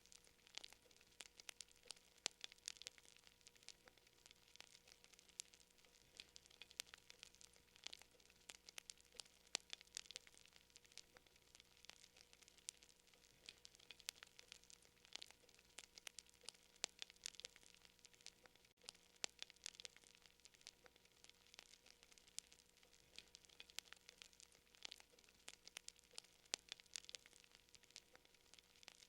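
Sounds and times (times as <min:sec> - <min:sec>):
soft hiss: 0:00.0 - 0:29.0
wood fire popping and snapping: 0:00.0 - 0:29.0.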